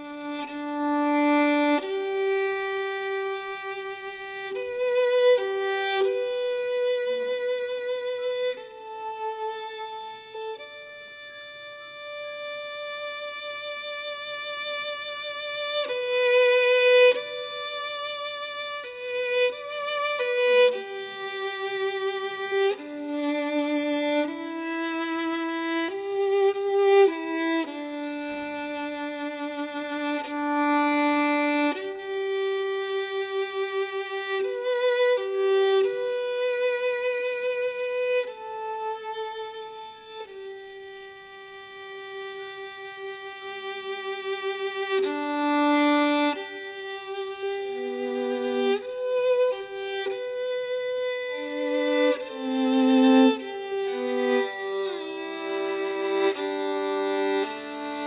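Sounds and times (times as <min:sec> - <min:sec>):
slow solo instrumental melody: 0:00.0 - 0:58.0.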